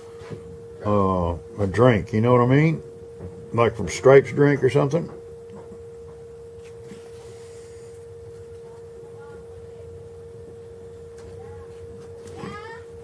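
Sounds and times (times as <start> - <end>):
steady single-pitch tone: 0.0 - 13.0.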